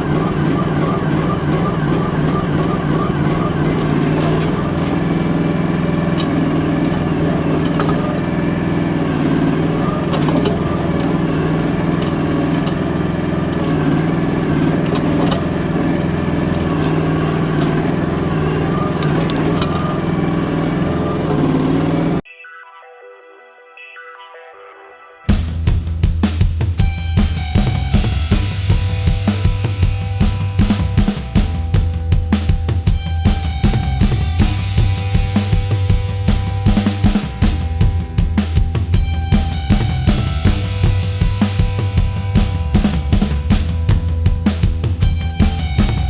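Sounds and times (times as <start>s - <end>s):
excavator engine running: 0.0s - 22.2s, 26.8s - 46.0s.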